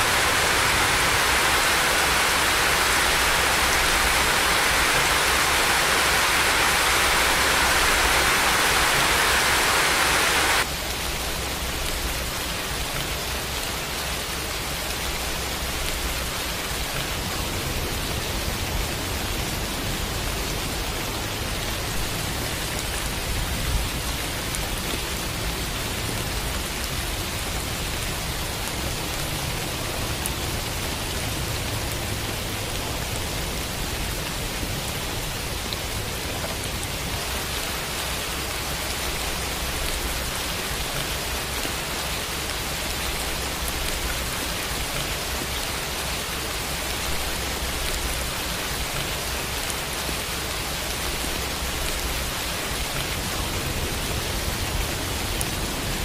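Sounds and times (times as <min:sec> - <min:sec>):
heavy rain downpour: 0:00.0 - 0:56.0
soft steady rainfall: 0:00.0 - 0:56.0.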